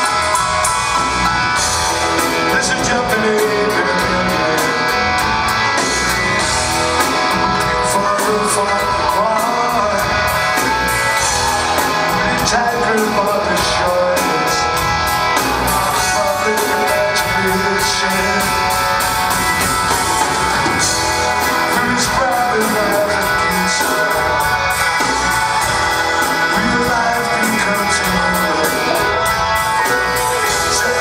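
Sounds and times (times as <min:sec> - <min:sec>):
bass guitar: 0:00.0 - 0:31.0
drums: 0:00.0 - 0:31.0
electric guitar: 0:00.0 - 0:31.0.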